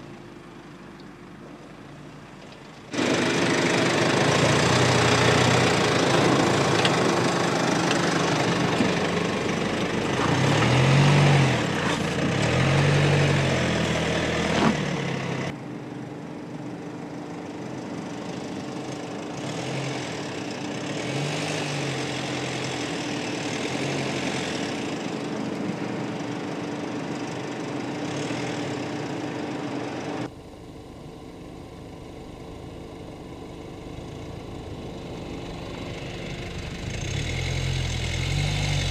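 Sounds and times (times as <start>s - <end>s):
car engine running at low speed: 0.0s - 38.9s.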